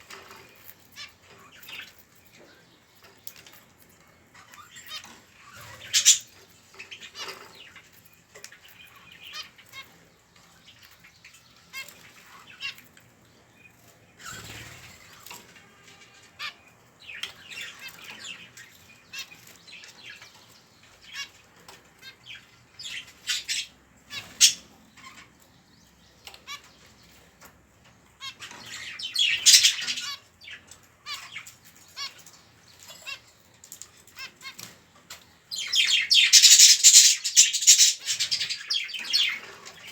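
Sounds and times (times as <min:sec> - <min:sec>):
bird chicks squawking: 0:00.0 - 0:39.9.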